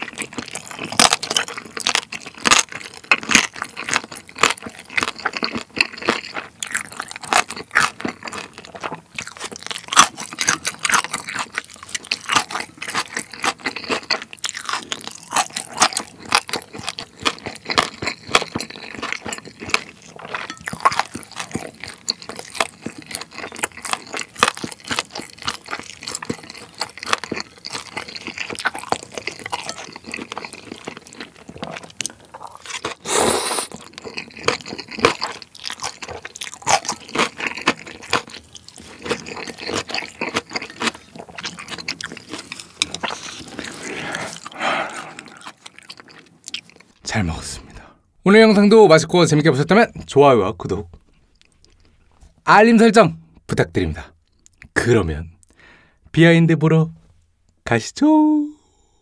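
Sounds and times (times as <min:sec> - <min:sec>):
crunchy chewing: 0:00.0 - 0:47.1, 0:51.0 - 0:52.4.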